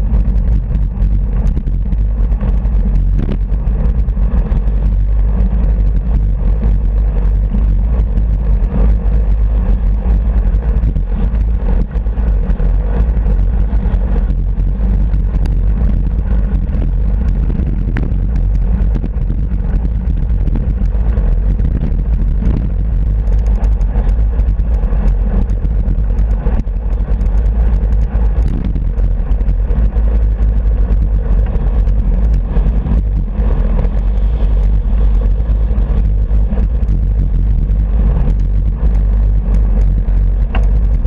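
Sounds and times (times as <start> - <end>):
road and tyre noise: 0.0 - 41.0
wind buffeting microphone: 0.0 - 41.0.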